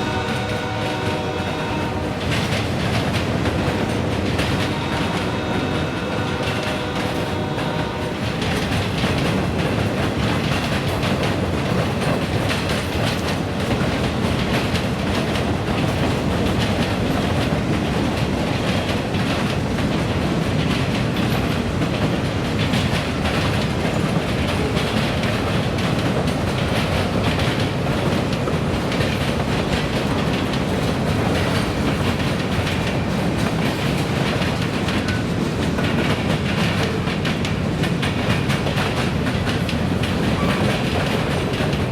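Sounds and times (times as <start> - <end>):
freight train wheels clacking: 0.0 - 41.9.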